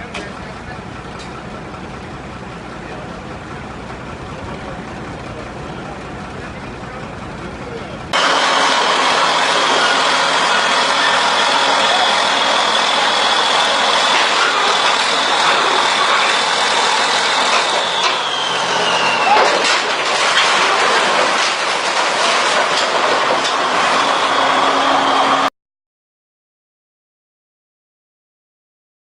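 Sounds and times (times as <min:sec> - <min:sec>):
heavy truck driving with whine: 0:00.0 - 0:25.5.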